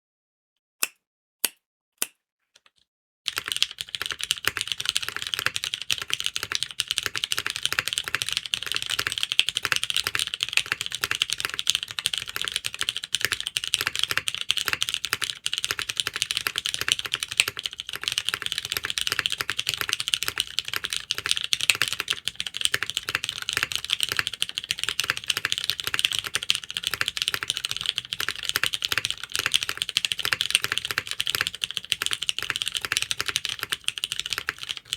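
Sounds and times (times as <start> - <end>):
mechanical keyboard typing: 3.3 - 34.9.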